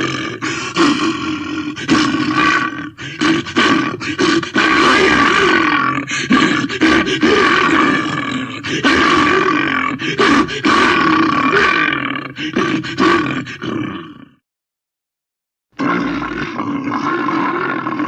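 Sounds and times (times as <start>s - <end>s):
person growling and roaring: 0.0s - 14.4s, 15.8s - 18.0s.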